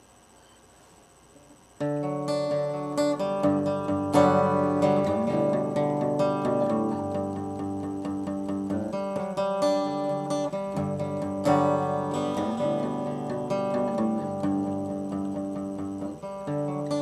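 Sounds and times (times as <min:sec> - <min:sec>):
acoustic guitar playing: 0:01.8 - 0:17.0.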